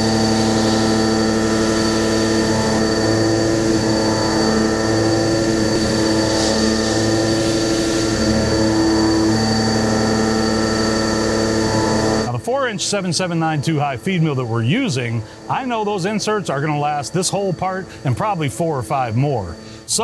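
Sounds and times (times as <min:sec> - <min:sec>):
milling machine cutting iron: 0:00.0 - 0:20.0.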